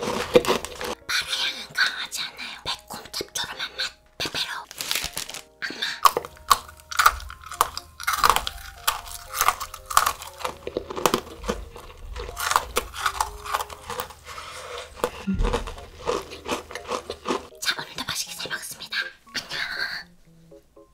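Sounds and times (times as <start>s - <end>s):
crunching and chewing biscuit sticks: 0.0s - 18.4s.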